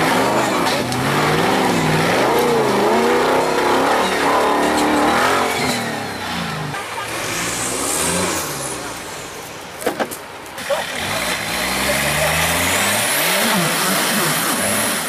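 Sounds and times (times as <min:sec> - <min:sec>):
buggy engine revving hard: 0:00.0 - 0:09.4, 0:10.6 - 0:15.0.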